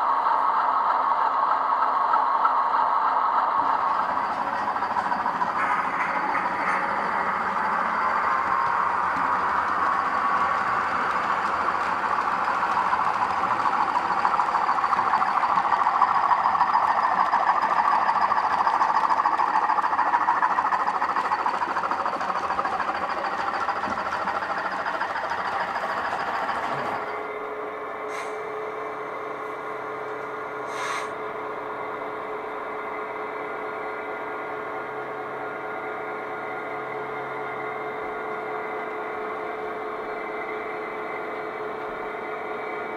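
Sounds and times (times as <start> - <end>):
model train whirring and rattling: 0.0 - 42.9.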